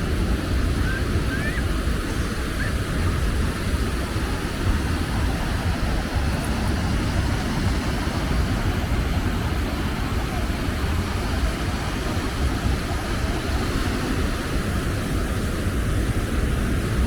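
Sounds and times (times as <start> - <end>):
surf: 0.0 - 17.0
wind: 0.0 - 17.0.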